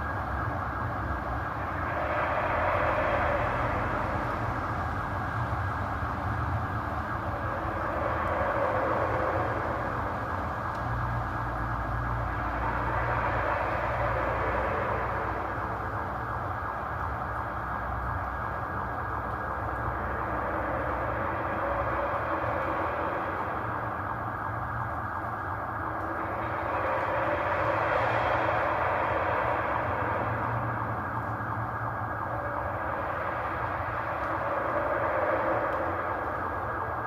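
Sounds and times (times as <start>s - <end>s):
droning noise from sky: 0.0s - 37.0s
steady low hum: 0.0s - 37.0s.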